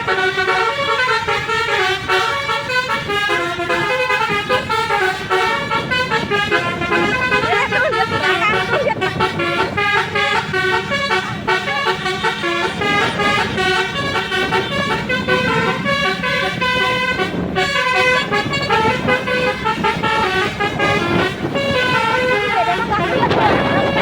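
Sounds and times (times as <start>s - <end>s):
musical air horn melody: 0.0s - 24.0s.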